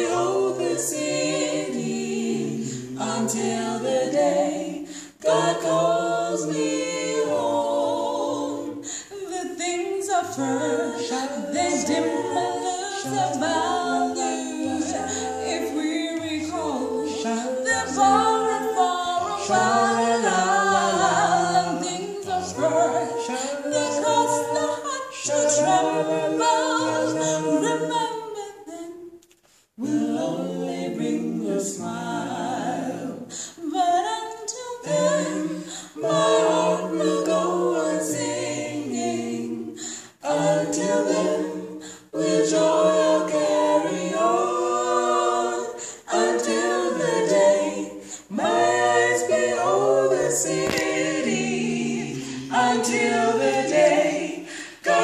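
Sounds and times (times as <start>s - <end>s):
vocal quartet singing a cappella: 0.0s - 55.0s.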